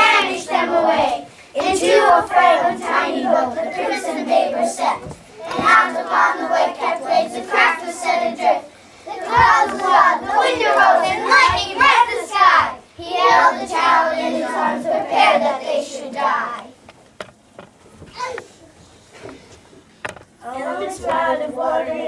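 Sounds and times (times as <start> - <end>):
young children singing in unison: 0.0 - 16.8, 20.4 - 22.0.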